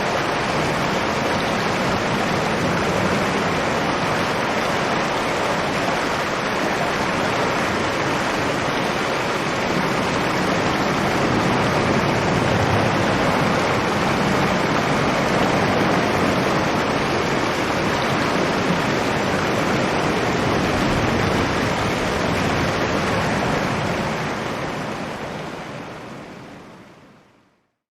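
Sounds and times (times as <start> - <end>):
storm wind rushing: 0.0 - 26.4.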